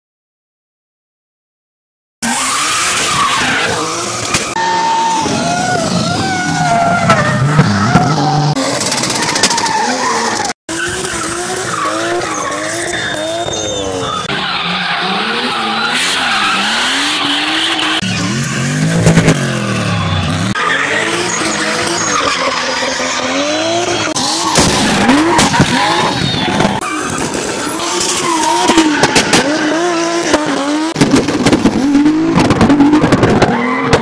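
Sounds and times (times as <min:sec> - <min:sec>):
car engines revving: 0:02.2 - 0:34.0
tyres skidding and squealing: 0:02.2 - 0:34.0.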